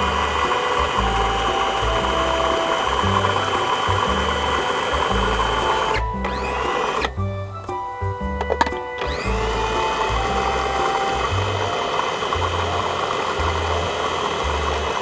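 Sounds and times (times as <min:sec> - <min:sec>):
food processor motor running: 0:00.0 - 0:07.2, 0:08.4 - 0:15.0
background music: 0:00.0 - 0:15.0.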